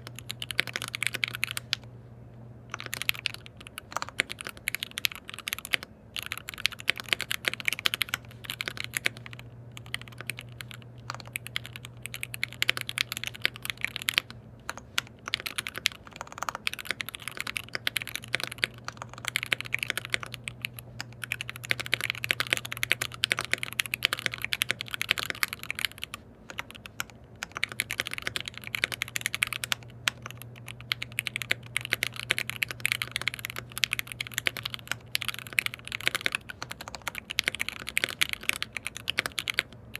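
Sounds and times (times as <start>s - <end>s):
mechanical keyboard typing: 0.0s - 1.8s, 2.7s - 39.9s.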